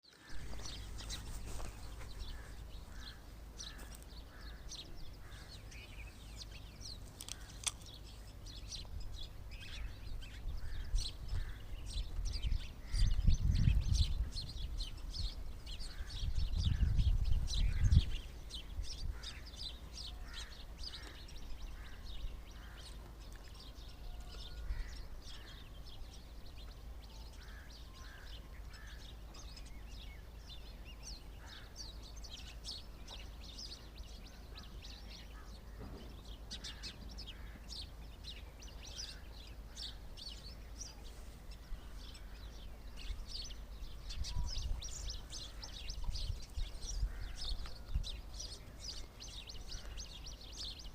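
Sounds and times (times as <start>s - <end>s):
lower repeated bird call: 0.0s - 50.9s
small birds chirping: 0.0s - 50.9s.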